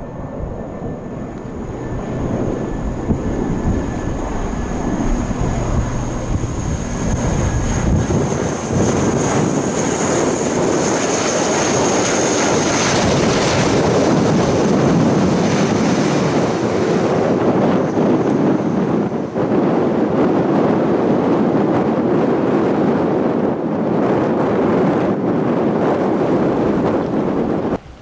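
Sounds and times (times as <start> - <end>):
turboprop aircraft drone: 0.0 - 28.0.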